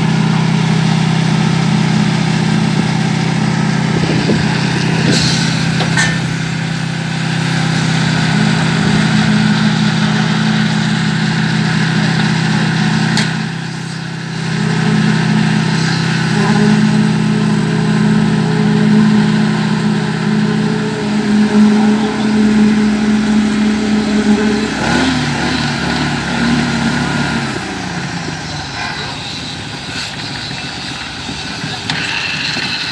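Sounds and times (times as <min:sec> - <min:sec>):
engine humming: 0:00.0 - 0:32.9.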